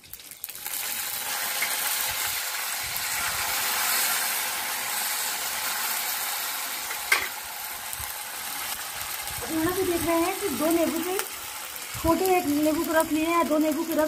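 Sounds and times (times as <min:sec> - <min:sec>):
leaves sizzling in hot oil: 0:00.0 - 0:14.0.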